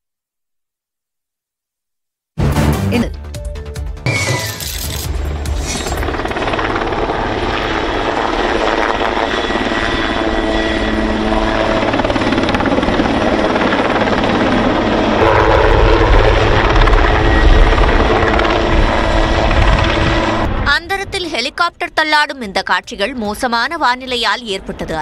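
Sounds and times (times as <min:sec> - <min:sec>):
helicopter rotor and engine: 0:03.6 - 0:25.0.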